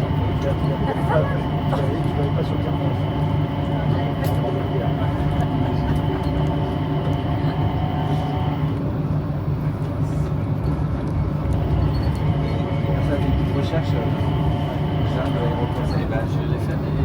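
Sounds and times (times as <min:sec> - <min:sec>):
motor whine: 0:00.0 - 0:08.8, 0:11.5 - 0:16.4
train rumble: 0:00.0 - 0:17.0.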